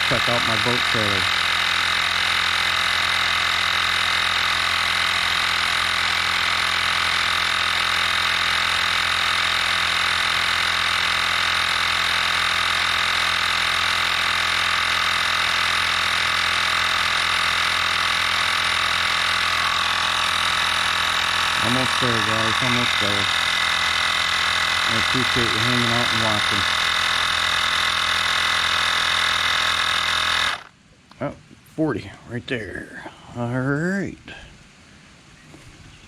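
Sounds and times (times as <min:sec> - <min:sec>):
tire inflator compressor running: 0:00.0 - 0:30.8.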